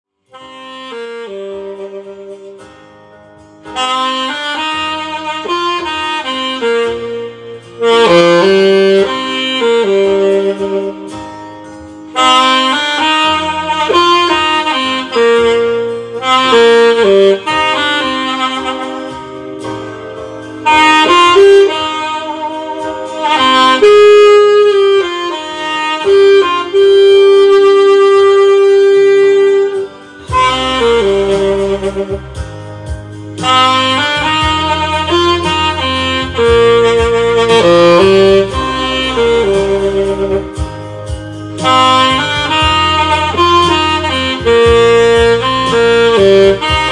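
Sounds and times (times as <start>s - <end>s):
saxophone melody: 0.2s - 46.9s
lower accompaniment: 0.3s - 46.9s.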